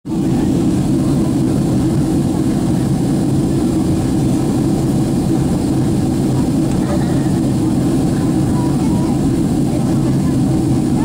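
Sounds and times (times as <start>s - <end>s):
jet engines roaring: 0.1s - 11.0s.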